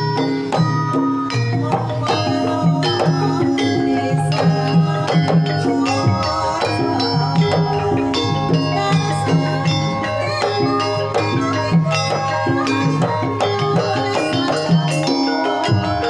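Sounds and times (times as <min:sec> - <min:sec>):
struck metal instruments ringing: 0:00.0 - 0:16.0.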